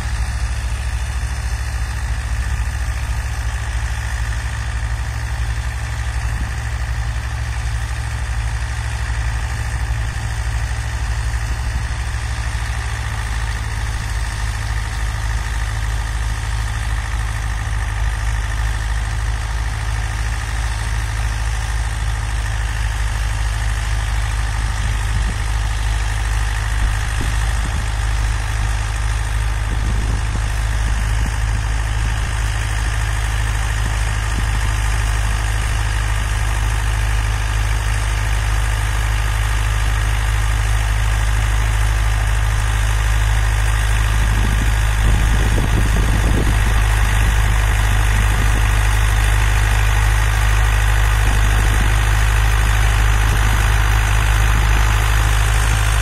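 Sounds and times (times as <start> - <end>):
tractor diesel engines rumbling: 0.0 - 56.0.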